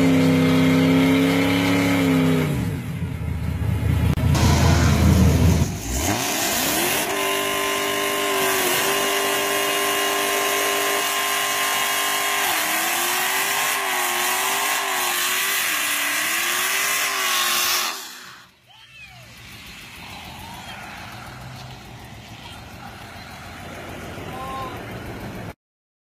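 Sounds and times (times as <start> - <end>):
car engine revving: 0.0 - 18.5, 19.3 - 25.6
tires spinning: 0.0 - 25.6.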